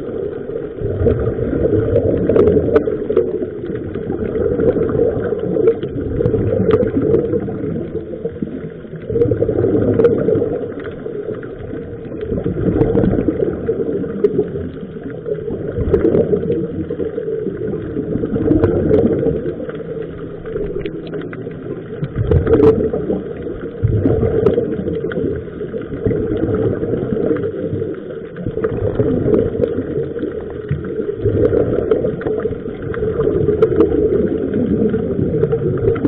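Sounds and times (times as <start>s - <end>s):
exhaled bubbles gurgling: 0.0s - 36.0s
faint clicks: 1.9s - 36.0s.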